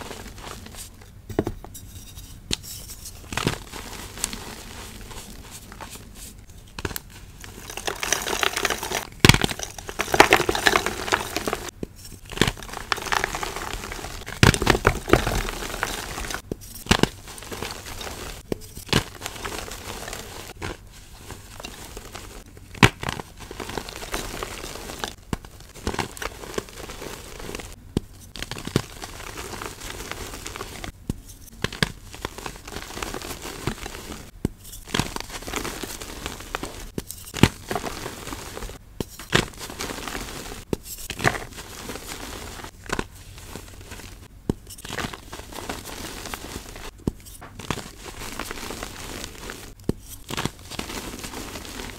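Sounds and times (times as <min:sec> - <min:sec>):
chalk crunching and crumbling in hands: 0:01.8 - 0:51.9.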